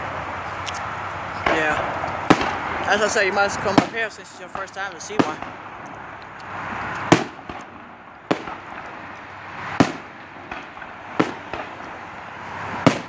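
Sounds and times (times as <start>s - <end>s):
fireworks bangs: 0.0s - 13.0s
steady hiss: 0.0s - 13.0s.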